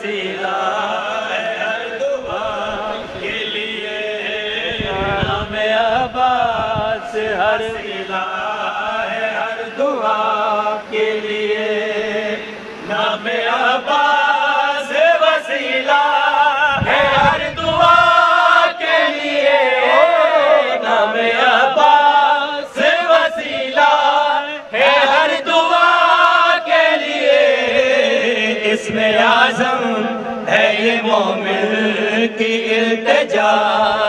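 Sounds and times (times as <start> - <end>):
men chanting into microphones: 0.0 - 34.0.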